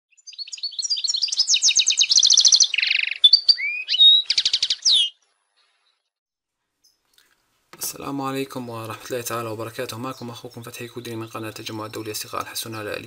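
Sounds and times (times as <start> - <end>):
bird singing twittering trills: 0.1 - 6.1, 8.4 - 13.0.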